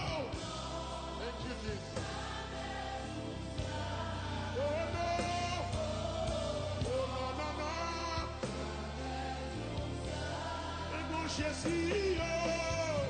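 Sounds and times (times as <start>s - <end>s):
band accompaniment: 0.0s - 13.0s
man singing gospel: 0.0s - 13.0s.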